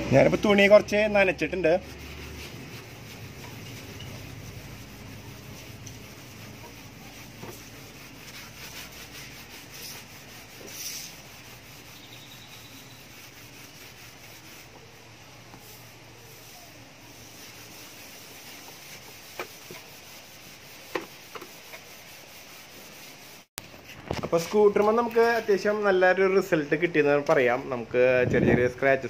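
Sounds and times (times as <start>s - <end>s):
cloth rubbing on plastic: 0.2s - 24.0s.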